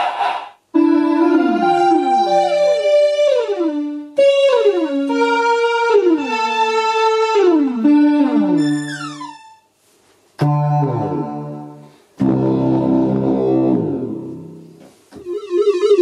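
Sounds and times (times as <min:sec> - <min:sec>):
synth notes sliding down: 0:00.8 - 0:09.6, 0:10.4 - 0:16.0.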